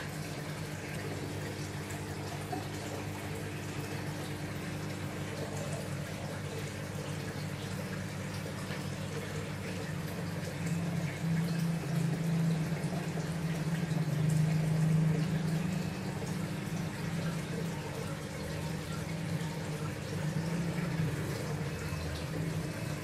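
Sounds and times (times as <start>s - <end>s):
aquarium pump hum: 0.0s - 23.0s
water trickling and bubbling: 0.0s - 23.0s.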